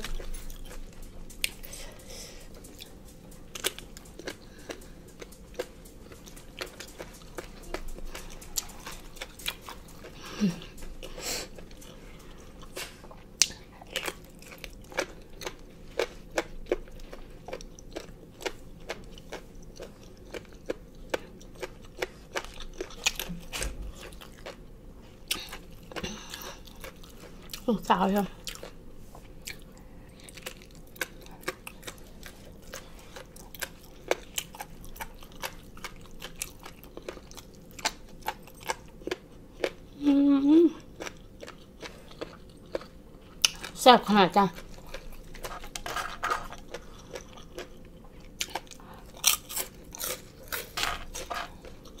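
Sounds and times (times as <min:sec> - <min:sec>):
crunchy chewing: 0:00.0 - 0:27.7, 0:28.3 - 0:40.0, 0:40.8 - 0:43.8, 0:44.5 - 0:52.0.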